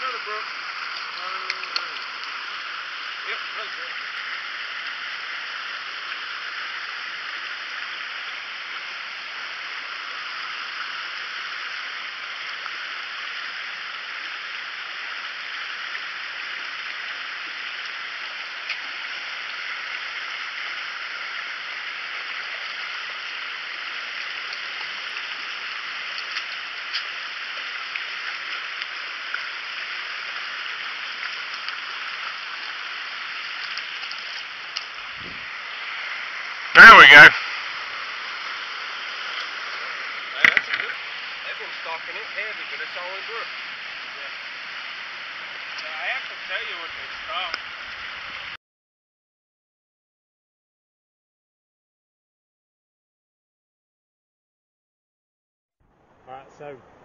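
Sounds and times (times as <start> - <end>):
creek water rushing over rocks: 0.0 - 48.6.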